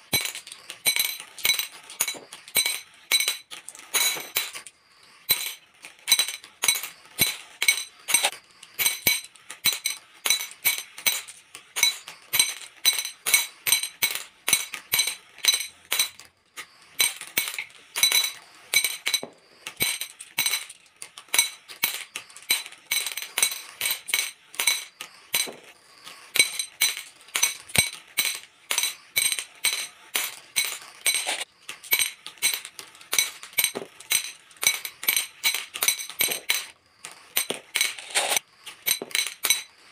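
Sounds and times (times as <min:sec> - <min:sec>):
glass marbles clinking: 0:00.0 - 0:39.9.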